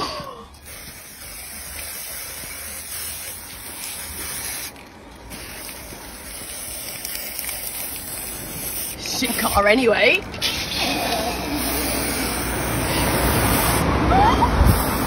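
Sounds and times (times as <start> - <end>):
spray paint can hissing: 0.6 - 13.9, 14.6 - 15.0.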